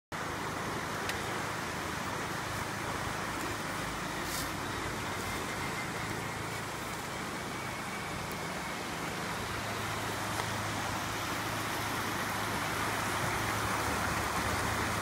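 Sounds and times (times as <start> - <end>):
constant rushing noise: 0.1 - 15.0
electric motor and gear whine: 0.7 - 14.6.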